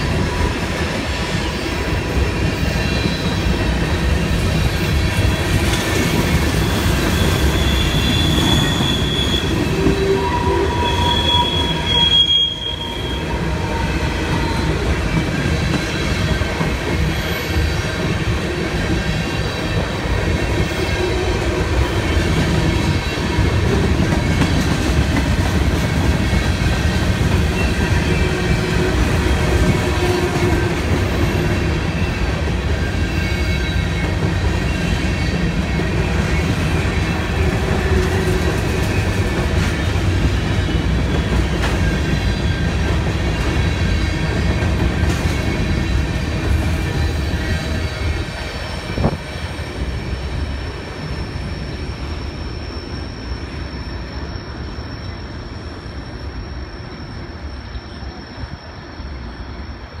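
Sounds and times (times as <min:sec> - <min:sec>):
freight train wheels rumbling: 0:00.0 - 1:00.0
high wheel squeal: 0:01.3 - 0:18.0, 0:25.8 - 1:00.0.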